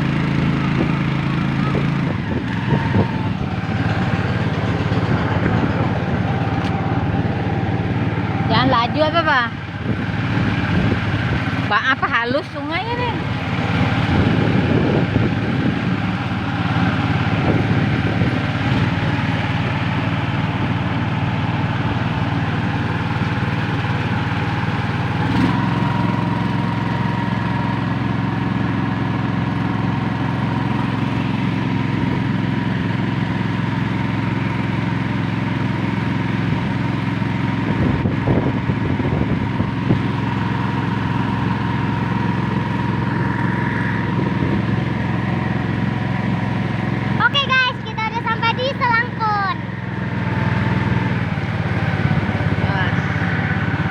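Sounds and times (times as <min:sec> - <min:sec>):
small boat engine running: 0:00.0 - 0:53.9.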